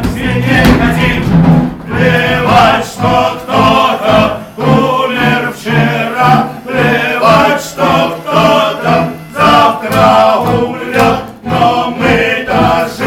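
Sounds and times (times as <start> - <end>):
backing music: 0.0 - 13.0
male choir singing: 0.0 - 13.0.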